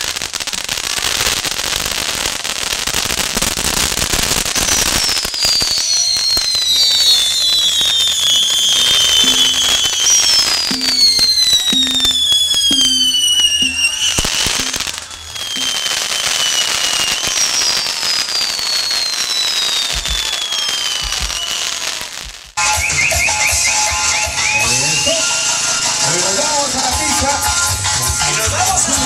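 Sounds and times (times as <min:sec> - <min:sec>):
fireworks whistles falling in pitch: 0:00.0 - 0:27.7
fireworks crackling bangs: 0:00.0 - 0:28.0.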